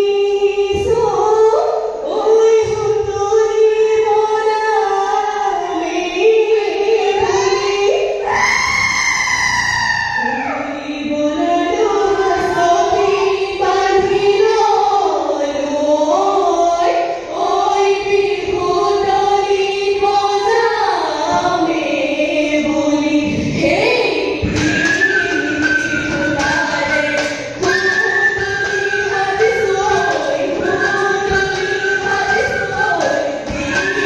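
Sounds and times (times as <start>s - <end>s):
women singing in unison: 0.0s - 34.0s.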